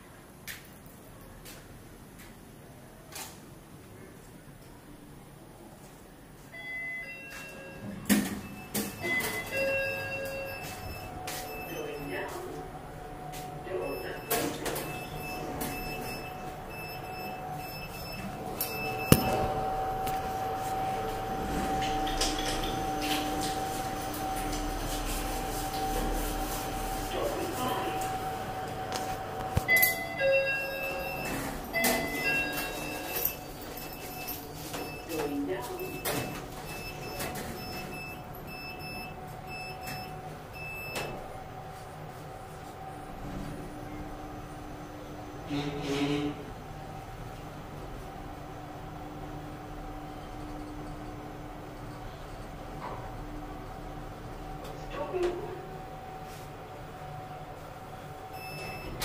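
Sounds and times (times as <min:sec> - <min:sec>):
lift mechanical hum: 0:00.0 - 0:59.0
elevator running rumble: 0:06.6 - 0:59.0.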